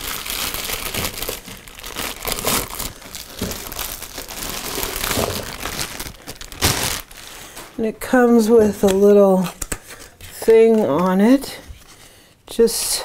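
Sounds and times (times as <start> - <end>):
plastic wrap crinkling: 0.0 - 12.2.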